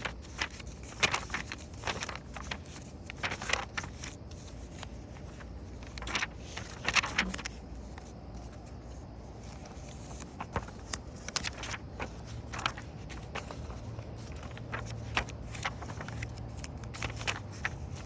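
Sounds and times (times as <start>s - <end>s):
low steady hum: 0.0s - 18.0s
paper pages turning: 0.0s - 18.0s.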